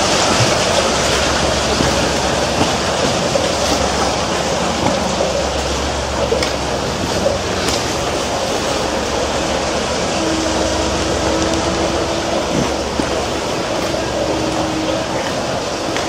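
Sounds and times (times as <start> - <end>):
water splashing against steel hull: 0.0 - 16.0.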